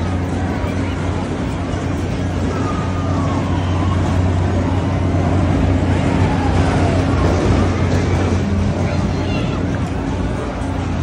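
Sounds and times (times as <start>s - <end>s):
fairground ride mechanical hum: 0.0s - 11.0s.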